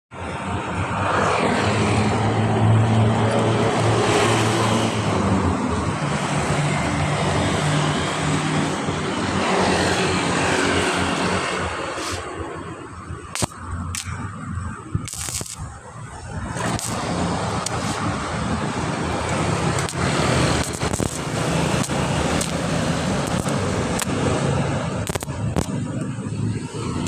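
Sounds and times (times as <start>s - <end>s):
machine drone with hum and hiss: 0.2s - 27.0s.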